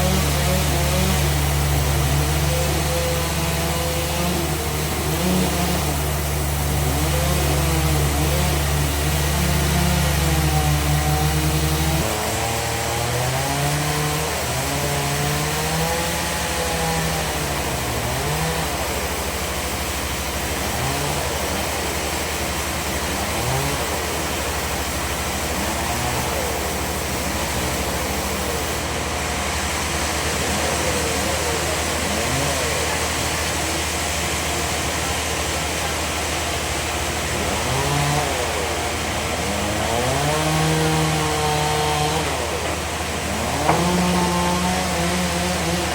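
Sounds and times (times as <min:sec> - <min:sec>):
bandsaw rising and falling pitch: 0:00.0 - 0:35.5, 0:37.1 - 0:45.9.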